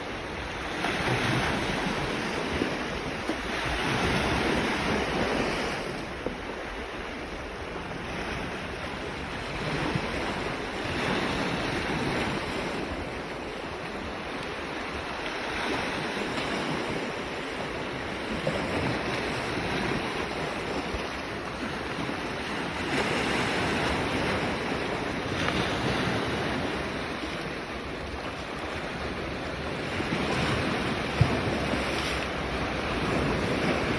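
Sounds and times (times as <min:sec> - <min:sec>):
sea waves breaking: 0:00.0 - 0:33.9
wind buffeting the microphone: 0:00.0 - 0:33.9.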